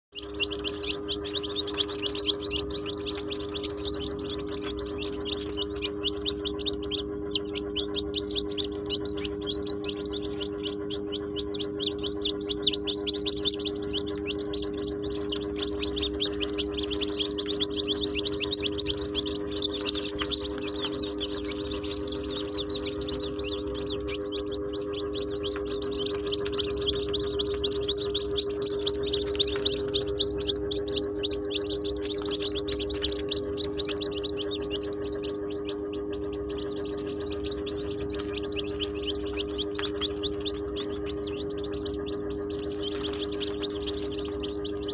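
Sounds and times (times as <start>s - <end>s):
chicks peeping: 0.1s - 44.9s
low hum: 0.2s - 44.9s.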